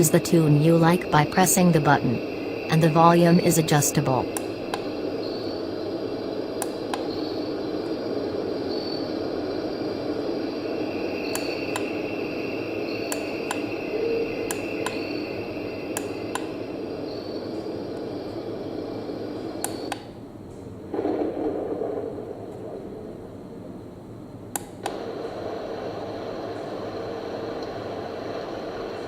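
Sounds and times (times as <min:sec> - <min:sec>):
steady rushing hiss: 0:00.0 - 0:19.9, 0:24.9 - 0:29.0.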